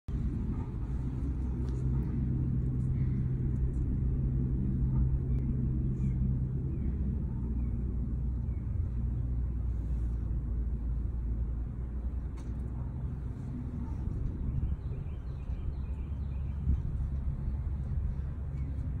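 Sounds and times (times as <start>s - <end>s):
mechanical rumble with hum: 0.1s - 19.0s.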